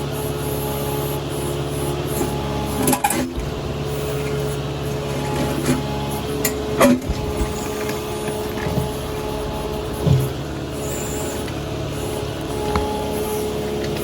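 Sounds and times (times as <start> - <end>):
digging machine engine running: 0.0 - 14.0.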